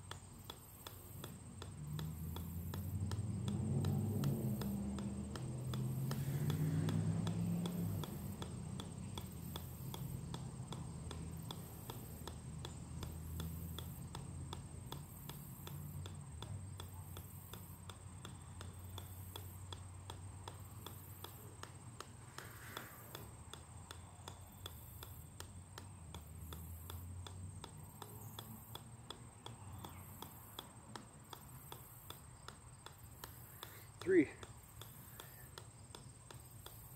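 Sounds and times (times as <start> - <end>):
ball bouncing off sledgehammer head: 0.0 - 36.9.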